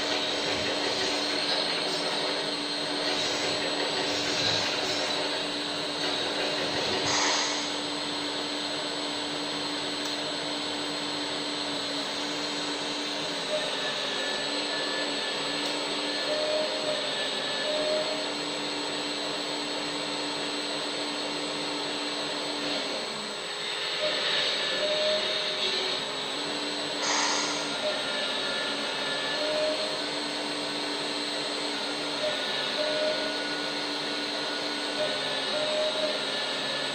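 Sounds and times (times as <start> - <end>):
hydraulic pump whine: 0.0 - 36.9.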